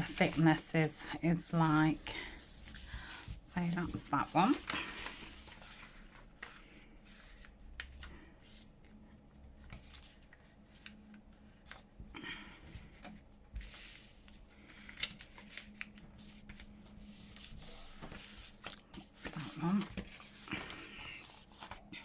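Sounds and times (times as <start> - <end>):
paper pages rustling: 0.0 - 22.0.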